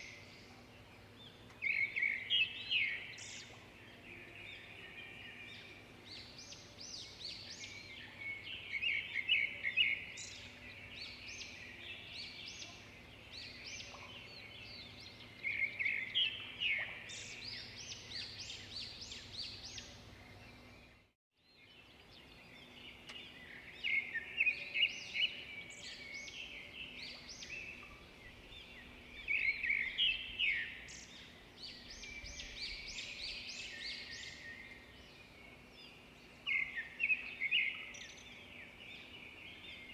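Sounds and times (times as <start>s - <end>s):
birds chirping: 0.0s - 39.9s
faint background noise: 0.0s - 39.9s.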